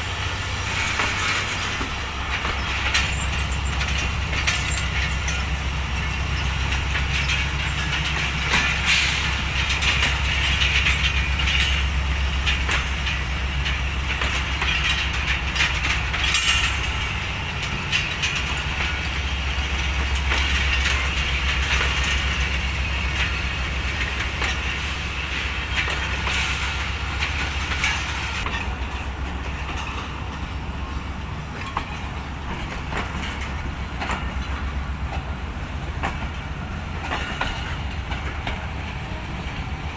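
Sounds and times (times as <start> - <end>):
train rumbling past: 0.0 - 39.9
wheels clicking over rail joints: 0.0 - 39.9.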